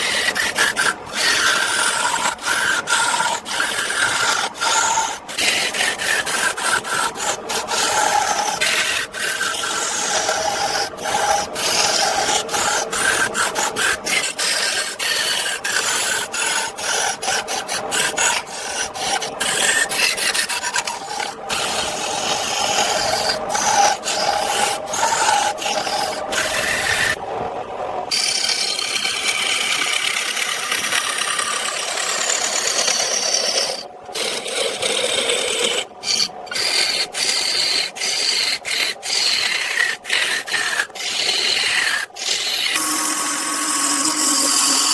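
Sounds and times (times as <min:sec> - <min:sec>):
hand tool rasping wood: 0:00.0 - 0:27.2, 0:28.1 - 0:44.9.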